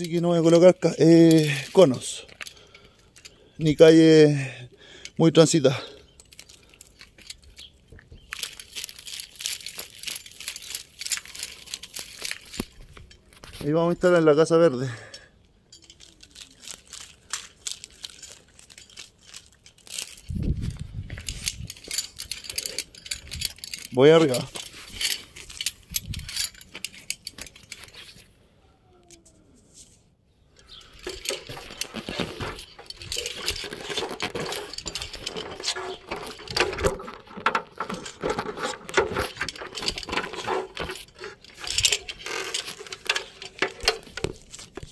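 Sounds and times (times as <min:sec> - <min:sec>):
metal harness gear clinking: 0:00.0 - 0:28.3, 0:30.6 - 0:44.9.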